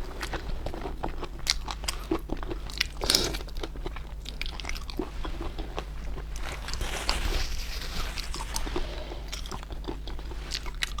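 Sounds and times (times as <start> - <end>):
close chewing and crunching: 0.0 - 11.0.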